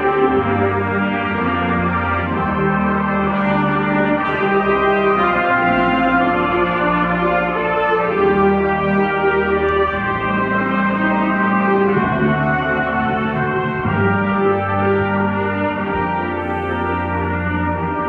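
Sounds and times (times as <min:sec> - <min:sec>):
concert band playing chords: 0:00.0 - 0:18.0.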